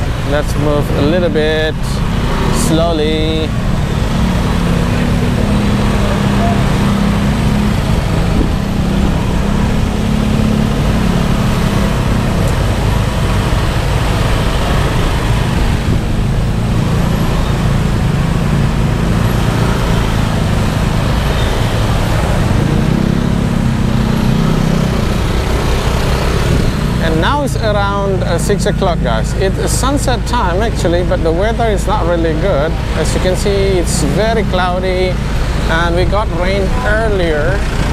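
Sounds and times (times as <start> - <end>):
motorbike engine at low speed: 0.0 - 37.9
road traffic: 0.0 - 37.9.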